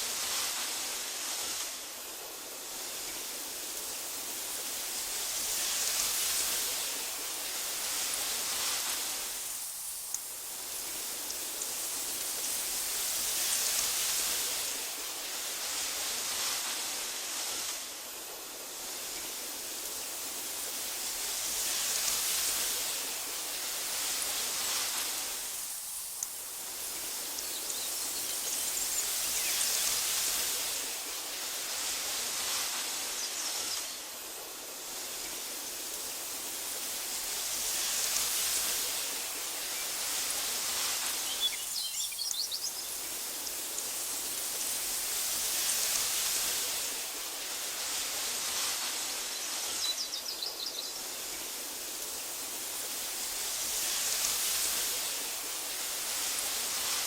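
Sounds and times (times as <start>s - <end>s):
wind rustling through grass: 0.0s - 57.0s.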